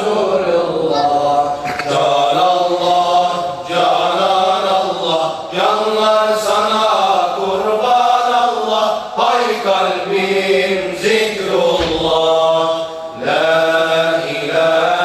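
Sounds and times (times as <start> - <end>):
group singing a devotional hymn: 0.0 - 15.0.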